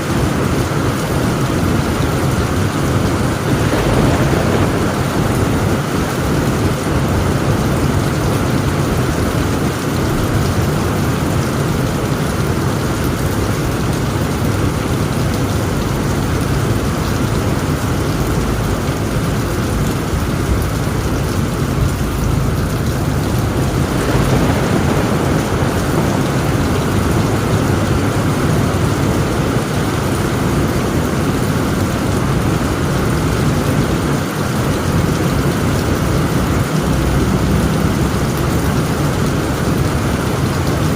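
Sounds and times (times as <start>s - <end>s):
heavy rain on a tent roof: 0.0s - 40.9s
low rumble of thunder: 0.0s - 40.9s.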